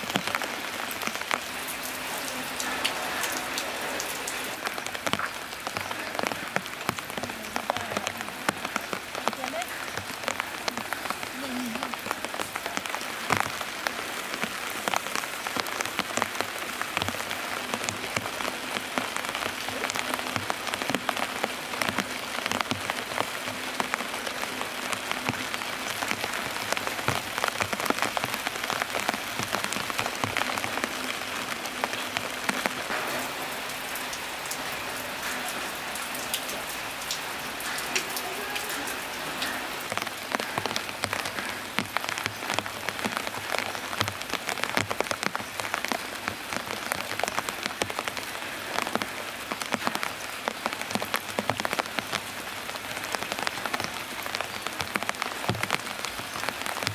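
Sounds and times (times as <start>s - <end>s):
raindrops ticking on hard surfaces: 0.0s - 56.9s
steady rain falling: 0.0s - 56.9s.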